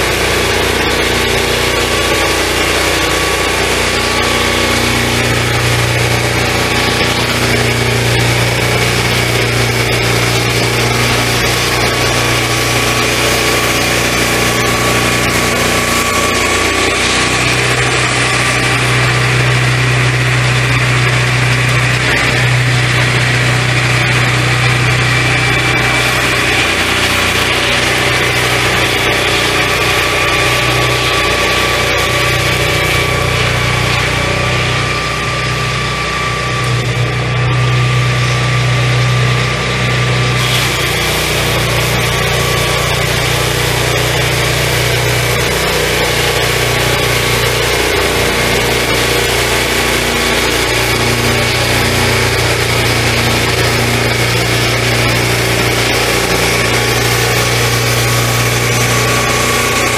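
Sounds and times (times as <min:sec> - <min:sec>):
circular saw cutting log: 0:00.0 - 0:59.9
petrol engine running: 0:00.0 - 0:59.9.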